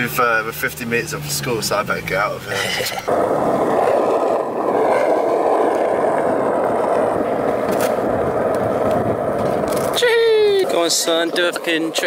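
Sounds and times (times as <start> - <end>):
skateboard wheels rolling on tarmac: 0.0 - 12.0.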